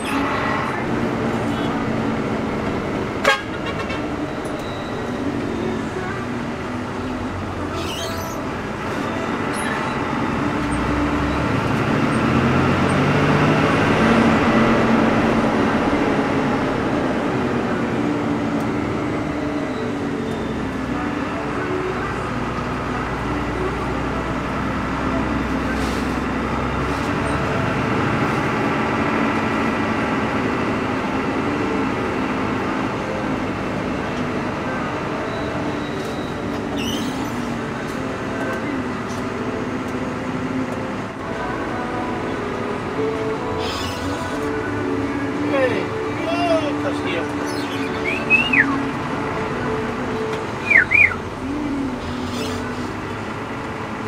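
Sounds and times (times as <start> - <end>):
bus diesel engine: 0.0 - 54.0
road noise inside cabin: 0.0 - 54.0.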